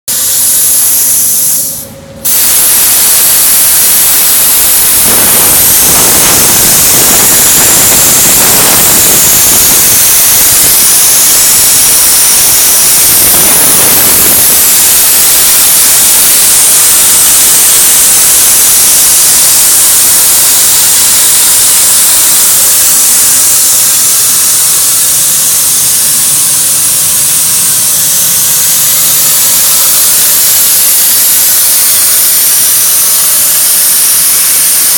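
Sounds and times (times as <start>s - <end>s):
plasma cutter hissing: 0.1s - 34.9s.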